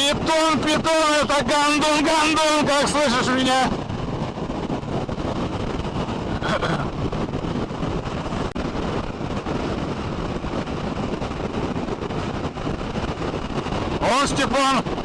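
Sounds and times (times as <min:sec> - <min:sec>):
motorcycle engine and road drone: 0:00.0 - 0:15.0
wind buffeting microphone: 0:00.0 - 0:15.0.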